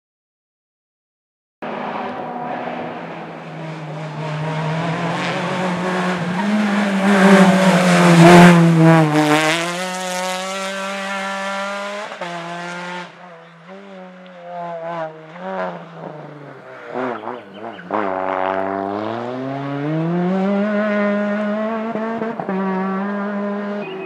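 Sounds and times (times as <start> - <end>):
rally car passing at full throttle: 1.6 - 24.0.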